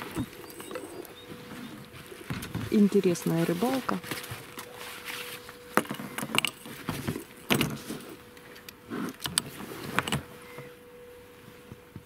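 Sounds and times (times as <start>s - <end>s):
rustling: 0.0s - 11.8s
faint steady hum: 0.0s - 12.0s.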